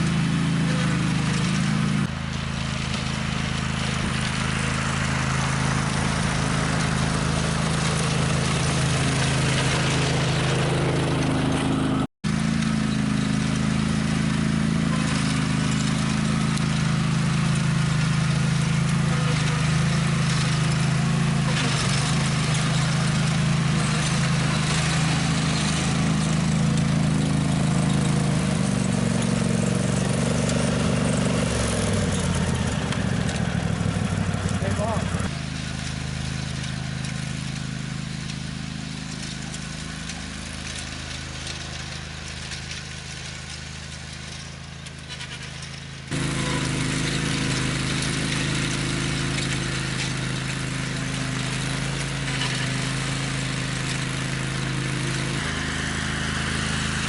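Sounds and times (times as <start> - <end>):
small gasoline engine running: 0.0 - 57.0.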